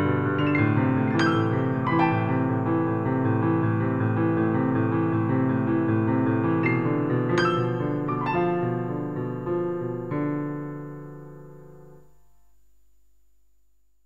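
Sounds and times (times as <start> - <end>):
piano chords: 0.0 - 12.2.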